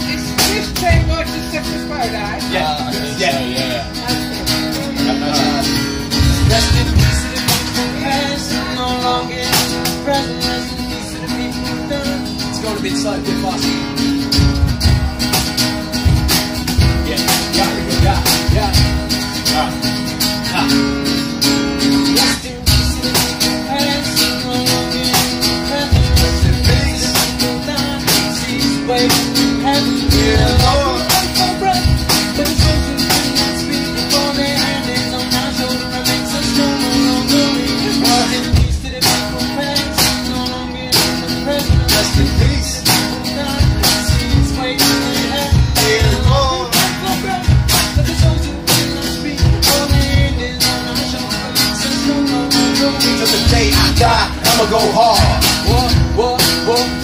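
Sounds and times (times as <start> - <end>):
acoustic guitar strumming: 0.0 - 57.0
man rapping: 0.0 - 57.0.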